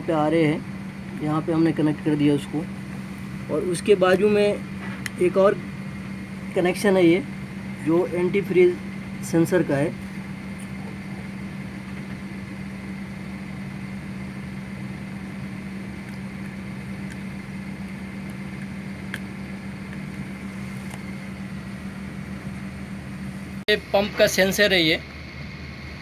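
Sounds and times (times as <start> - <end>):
machine hum: 0.0 - 26.0.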